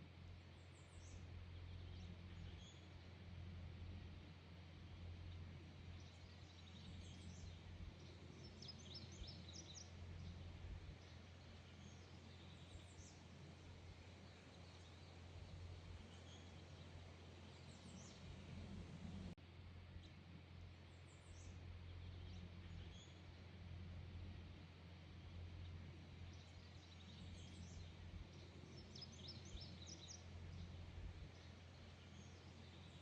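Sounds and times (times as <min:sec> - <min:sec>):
faint birds chirping: 0:00.0 - 0:33.0
low steady rumble: 0:00.0 - 0:33.0.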